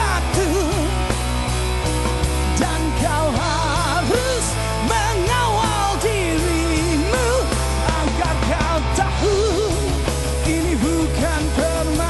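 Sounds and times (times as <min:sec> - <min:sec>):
man singing with vibrato: 0:00.0 - 0:01.1, 0:02.4 - 0:12.0
bass notes: 0:00.0 - 0:12.0
drums: 0:00.0 - 0:12.0.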